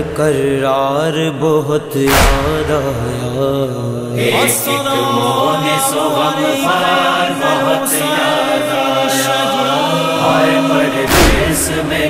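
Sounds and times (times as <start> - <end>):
voices chanting wordless chorus: 0.0 - 12.0.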